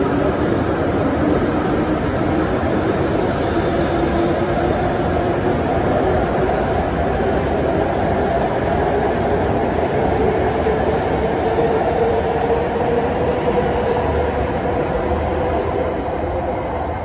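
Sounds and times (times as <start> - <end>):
train running with whine: 0.0 - 17.0.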